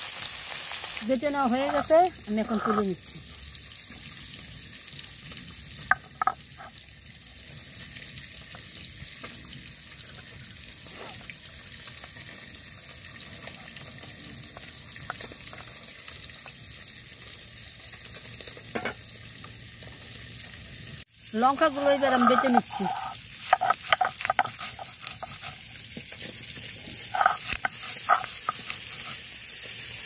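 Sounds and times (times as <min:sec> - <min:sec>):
fish frying in oil: 0:00.0 - 0:30.0.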